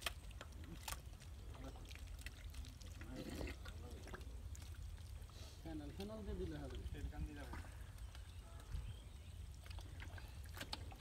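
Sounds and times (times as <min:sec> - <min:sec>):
splashing and squelching in mud: 0:00.0 - 0:11.0.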